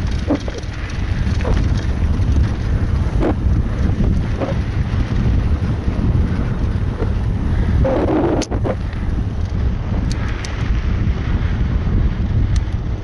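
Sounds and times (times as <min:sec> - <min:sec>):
bike knocking and rattling: 0:00.0 - 0:13.0
tyre noise on dirt trail: 0:00.0 - 0:13.0
wind buffeting microphone: 0:00.0 - 0:13.0.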